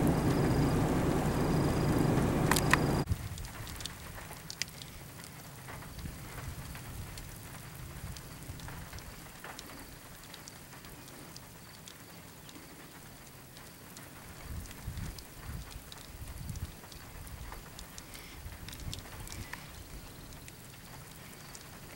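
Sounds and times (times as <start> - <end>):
raindrops ticking: 0.0 - 21.9.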